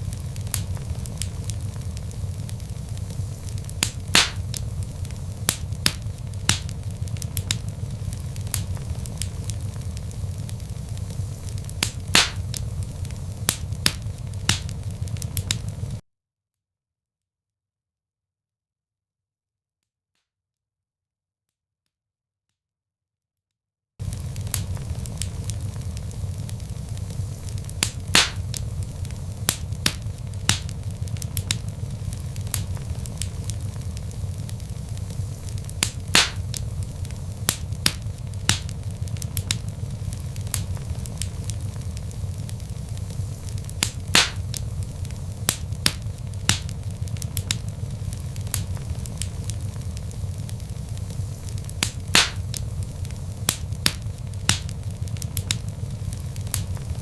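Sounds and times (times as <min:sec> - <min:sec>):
log fire crackling: 0:00.0 - 0:16.0, 0:24.0 - 0:57.0.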